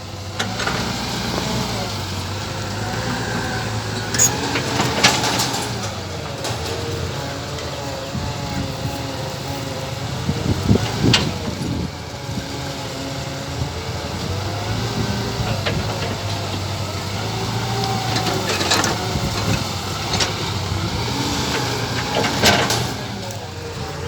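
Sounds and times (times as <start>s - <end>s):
model excavator motors whining: 0.0s - 24.0s.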